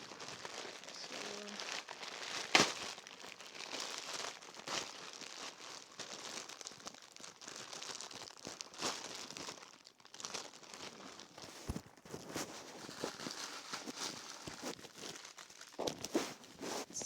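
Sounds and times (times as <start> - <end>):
plastic packaging crinkling and tearing: 0.0 - 17.0.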